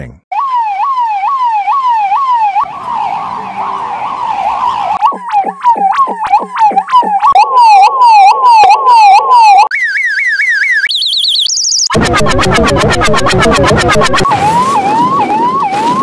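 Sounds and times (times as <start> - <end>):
police car siren: 0.3 - 16.0.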